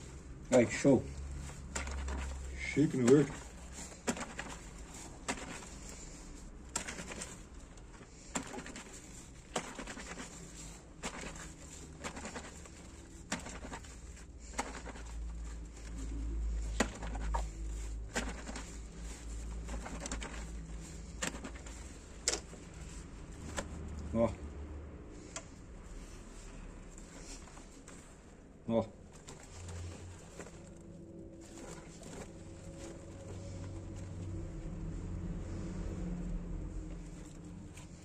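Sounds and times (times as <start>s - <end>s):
wet cloth slapping and squelching: 0.0s - 24.1s, 25.2s - 38.0s.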